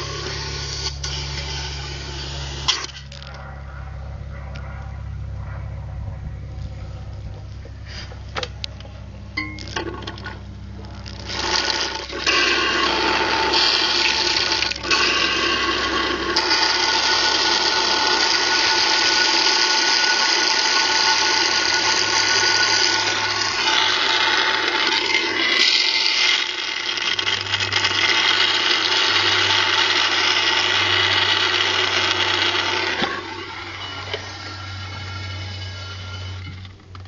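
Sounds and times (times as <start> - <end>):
low vacuum pump hum: 0.0 - 37.0.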